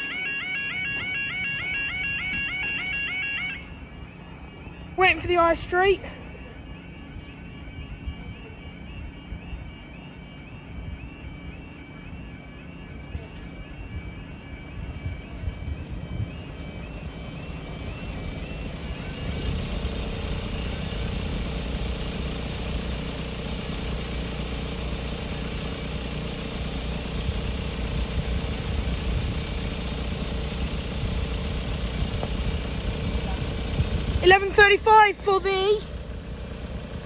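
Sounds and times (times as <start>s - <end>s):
engine running: 0.0s - 9.3s, 11.8s - 37.0s.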